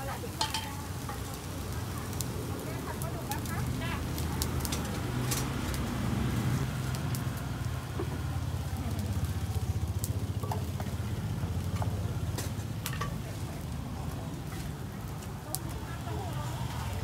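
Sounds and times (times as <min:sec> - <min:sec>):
hissing haze: 0:00.0 - 0:17.0.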